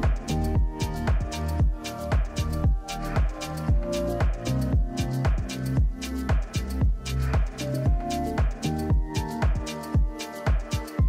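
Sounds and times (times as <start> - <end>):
electronic music: 0.0 - 11.0
kick-drum beat: 0.0 - 11.0.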